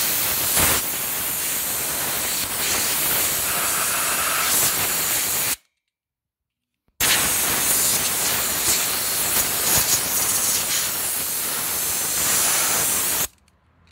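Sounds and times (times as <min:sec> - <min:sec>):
compressed air hissing: 0:00.0 - 0:05.6, 0:07.0 - 0:13.3.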